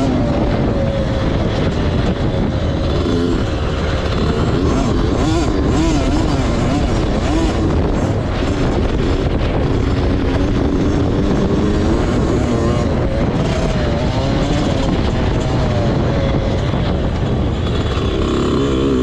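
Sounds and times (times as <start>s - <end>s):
constant low rumble: 0.0s - 19.0s
motocross bike engine revving: 0.0s - 19.0s.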